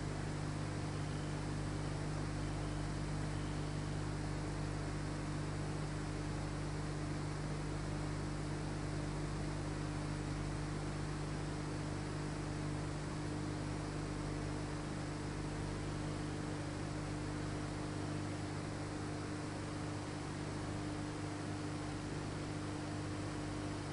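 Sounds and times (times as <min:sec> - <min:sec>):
electrical hum with hiss: 0:00.0 - 0:23.9.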